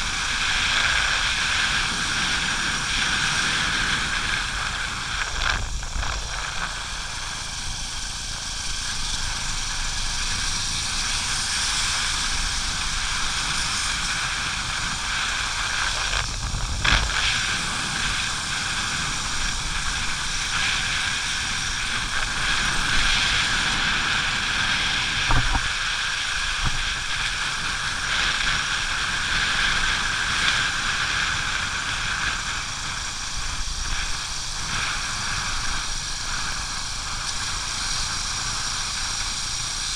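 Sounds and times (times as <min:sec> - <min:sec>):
motorcycle wind and road noise: 0:00.0 - 0:39.9.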